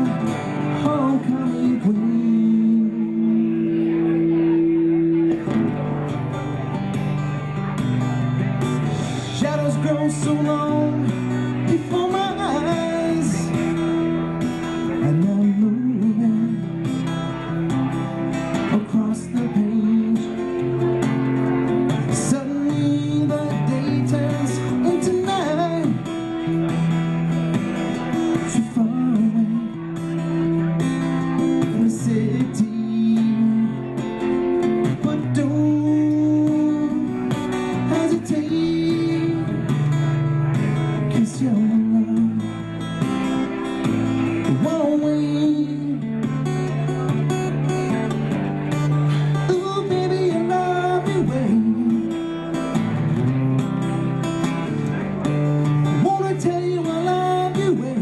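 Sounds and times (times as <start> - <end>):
man singing: 0.0 - 5.7, 8.0 - 47.7, 48.8 - 53.1, 54.5 - 58.0
strummed acoustic guitar: 0.0 - 58.0.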